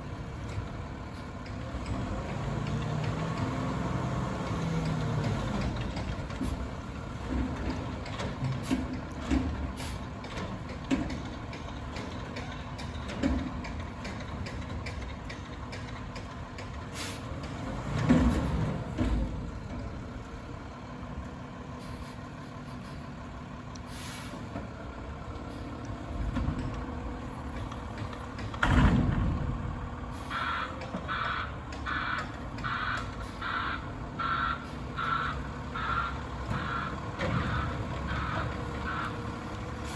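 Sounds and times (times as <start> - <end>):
garbage truck running: 0.0 - 39.9.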